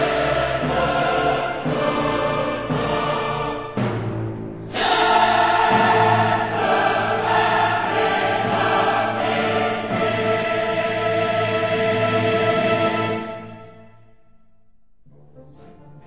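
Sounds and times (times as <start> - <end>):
choir holding sustained chords: 0.0 - 14.4.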